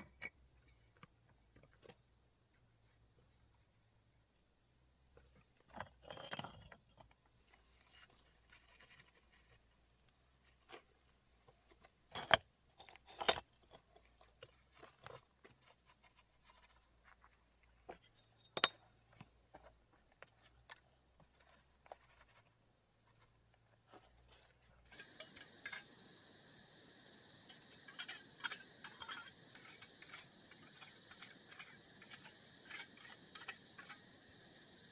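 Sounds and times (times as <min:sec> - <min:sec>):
small clicks and scrapes: 0:00.0 - 0:03.3, 0:05.0 - 0:26.7, 0:27.3 - 0:34.9.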